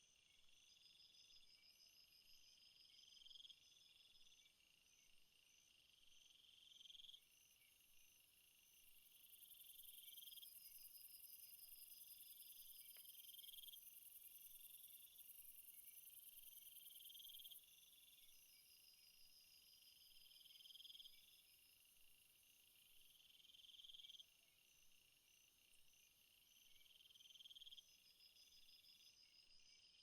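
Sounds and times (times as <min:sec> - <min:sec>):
crickets chirping: 0:00.2 - 0:30.0
high continuous insect trill: 0:00.2 - 0:30.0
low buzzing insect call: 0:00.2 - 0:30.0.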